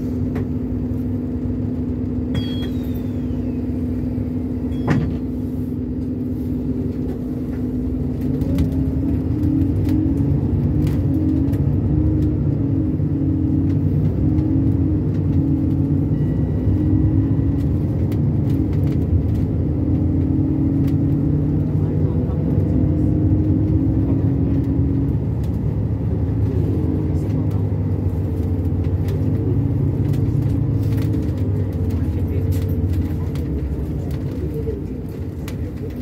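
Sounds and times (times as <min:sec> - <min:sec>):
bus engine humming: 0:00.0 - 0:36.0.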